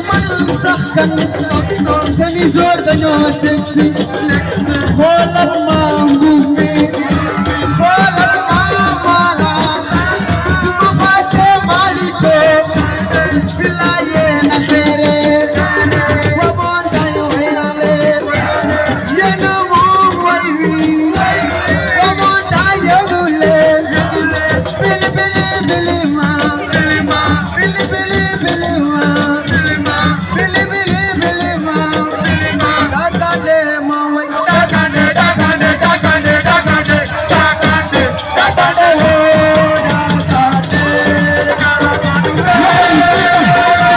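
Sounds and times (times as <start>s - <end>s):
driving percussion: 0.0s - 43.9s
live band music: 0.0s - 43.9s.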